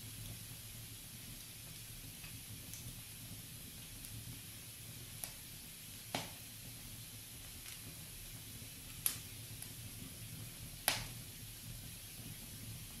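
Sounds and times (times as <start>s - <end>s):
fire hissing: 0.0s - 13.0s.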